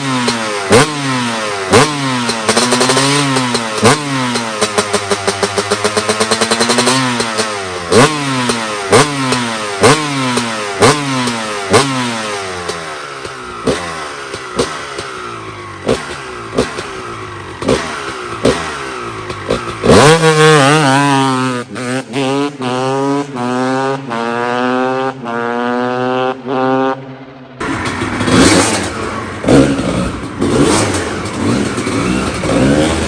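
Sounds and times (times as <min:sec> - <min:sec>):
engine crackles: 0:00.0 - 0:22.2, 0:27.6 - 0:33.0
motorcycle engine revving: 0:00.0 - 0:33.0.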